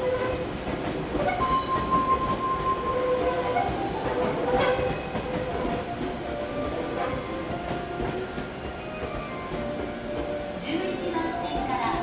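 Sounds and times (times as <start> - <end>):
train equipment humming and blowing: 0.0 - 12.0.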